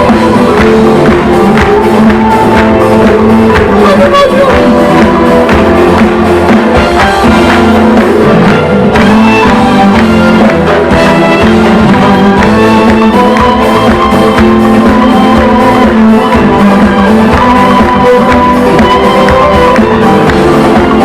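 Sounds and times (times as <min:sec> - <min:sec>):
live pop band music: 0:00.0 - 0:21.0.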